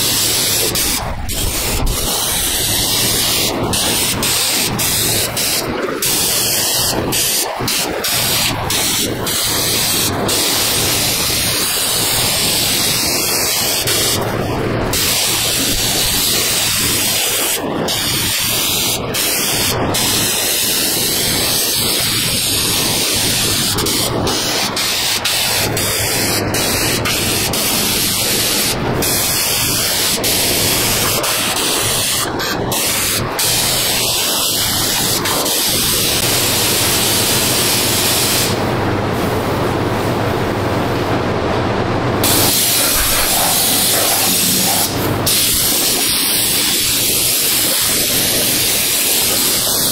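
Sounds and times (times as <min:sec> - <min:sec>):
spray gun hissing: 0:00.0 - 0:14.2, 0:14.9 - 0:38.6, 0:42.2 - 0:49.9.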